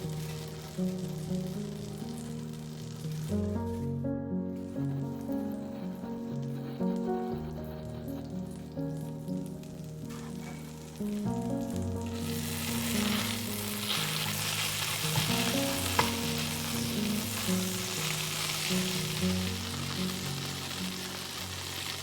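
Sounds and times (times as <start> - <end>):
food sizzling in pan: 0.0 - 3.8, 4.6 - 22.0
soft background music: 0.0 - 22.0.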